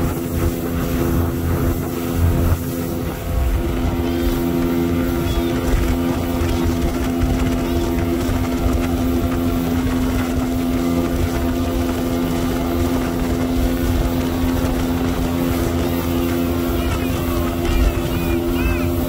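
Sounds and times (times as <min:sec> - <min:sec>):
outboard motor running: 0:00.0 - 0:19.0
water rushing past hull: 0:00.0 - 0:19.0
wind rumble on microphone: 0:00.0 - 0:19.0.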